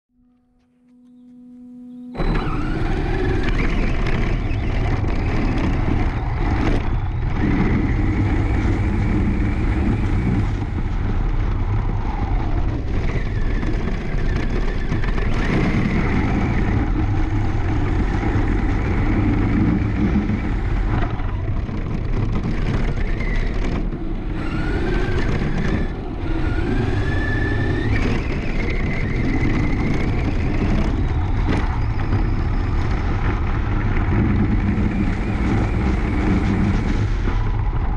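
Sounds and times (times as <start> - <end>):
electric motor whining: 0.9 - 37.9
tyres rumbling on rough ground: 2.2 - 37.9.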